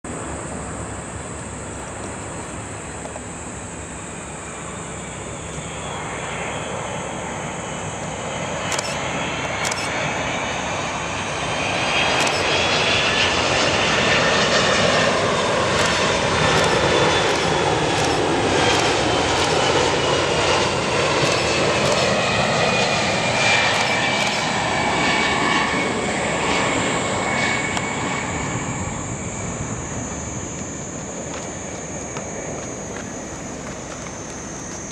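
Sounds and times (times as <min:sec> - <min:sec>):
jet airliner passing by: 0:00.1 - 0:34.9.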